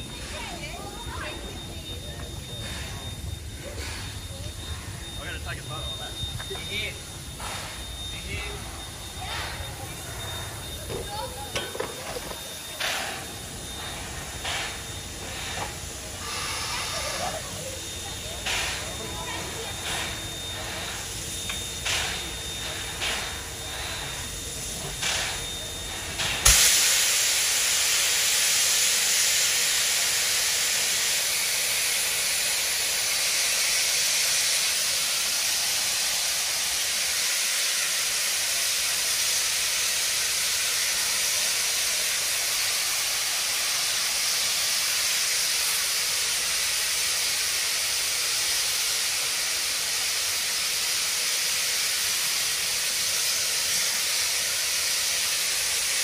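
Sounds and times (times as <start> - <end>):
loud steam hiss: 0.0 - 56.0
steam locomotive puffs: 0.0 - 56.0.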